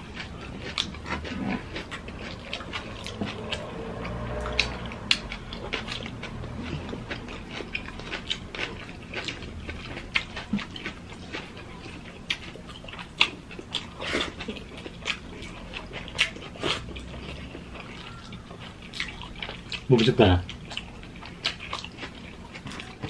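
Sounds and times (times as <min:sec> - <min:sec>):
chewing and lip-smacking: 0:00.0 - 0:23.0.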